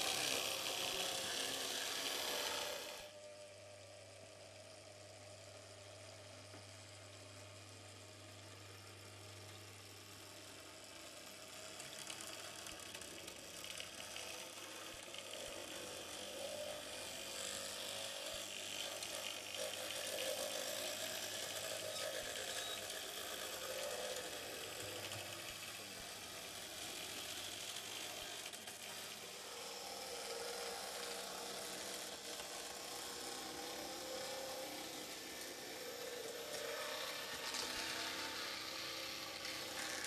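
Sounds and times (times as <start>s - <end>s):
model wheels clicking over rails: 0.0s - 3.2s, 8.2s - 40.0s
small electric motor whirring: 0.0s - 40.0s.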